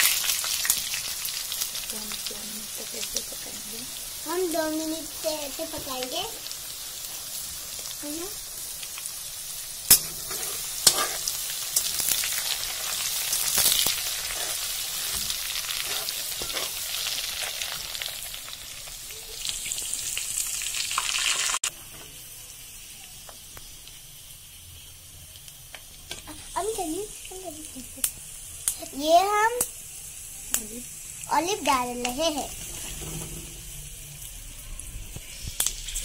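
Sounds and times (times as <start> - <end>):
spice paste sizzling in oil: 0.0 - 36.0.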